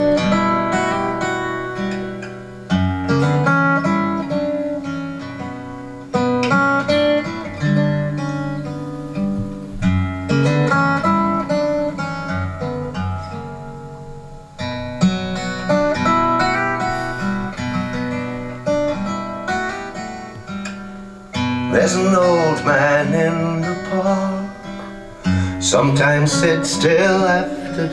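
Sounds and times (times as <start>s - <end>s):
acoustic guitar chords: 0.0s - 27.9s.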